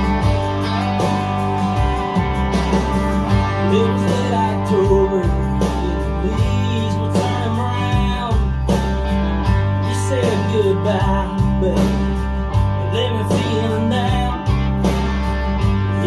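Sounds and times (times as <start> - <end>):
deep bass notes: 0.0 - 16.0
song with guitar and singing: 0.0 - 16.0.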